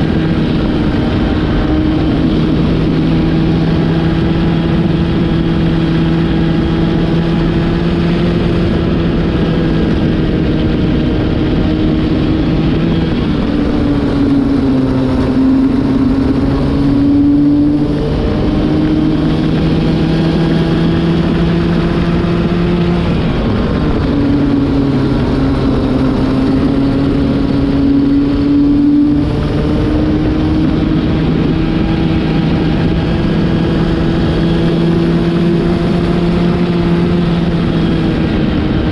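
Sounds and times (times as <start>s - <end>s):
kart engine at high revs: 0.0s - 38.9s.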